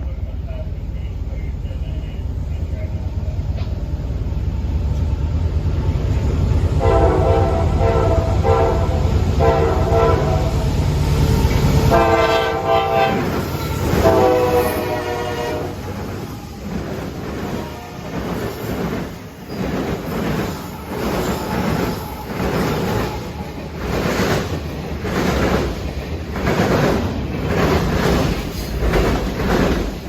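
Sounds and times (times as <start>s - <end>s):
diesel locomotives rumbling: 0.0s - 30.0s.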